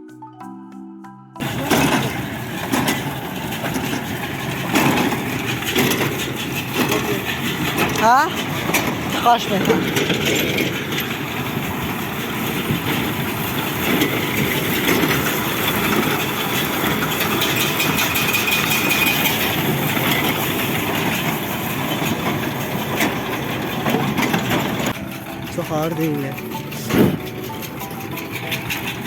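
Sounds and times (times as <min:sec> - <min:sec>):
hay baler mechanical clatter: 0:01.4 - 0:29.0
tractor engine running: 0:01.4 - 0:29.0.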